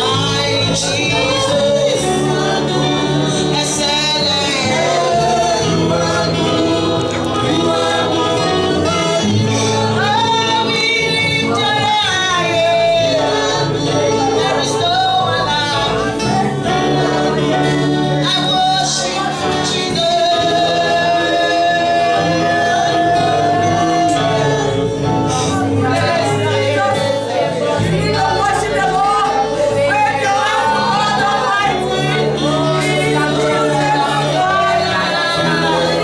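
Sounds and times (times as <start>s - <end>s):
band playing with steady beat: 0.0s - 36.0s
voices singing together: 0.0s - 36.0s.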